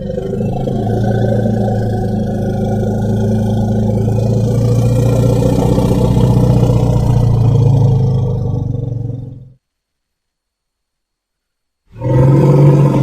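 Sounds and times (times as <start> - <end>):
elephant rumbling: 0.0 - 9.6, 11.9 - 13.0.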